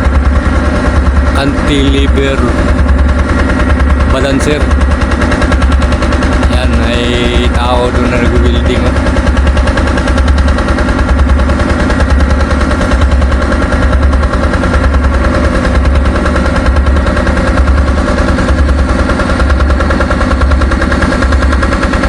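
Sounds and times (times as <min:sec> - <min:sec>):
engine chugging: 0:00.0 - 0:22.0.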